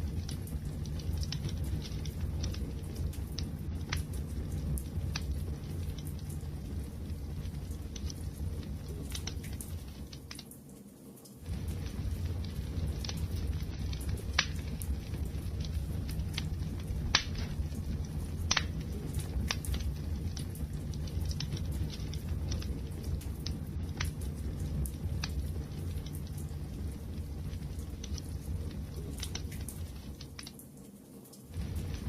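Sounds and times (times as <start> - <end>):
wood fire rumbling: 0.0 - 10.4, 11.4 - 30.8, 31.5 - 32.0
fire crackling and popping: 0.0 - 32.0.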